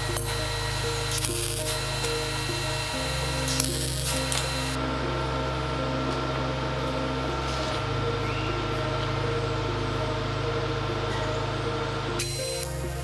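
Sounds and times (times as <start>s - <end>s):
electronic bass drone: 0.0s - 13.0s.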